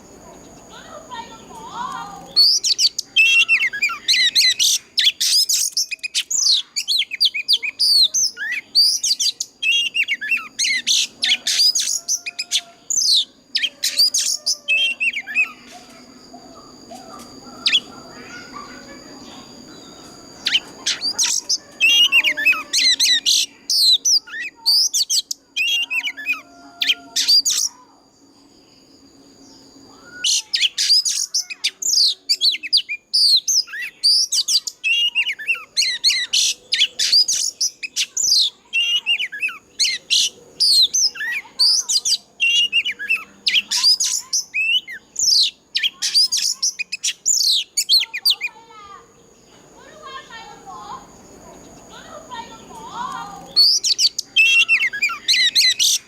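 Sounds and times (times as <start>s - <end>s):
bird singing whistles and chirps: 1.8s - 28.0s, 29.4s - 48.6s, 51.7s - 56.0s.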